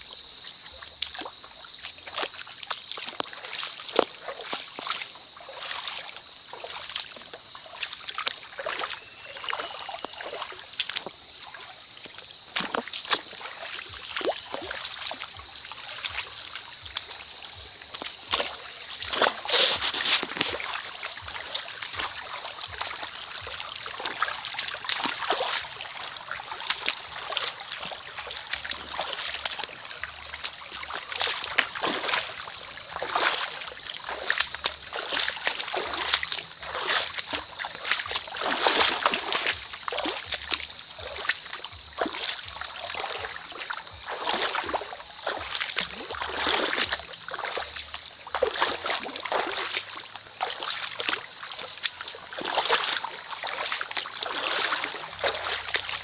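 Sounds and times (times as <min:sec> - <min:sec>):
creek water splashing: 0:00.0 - 0:56.0
water trickling: 0:00.0 - 0:56.0.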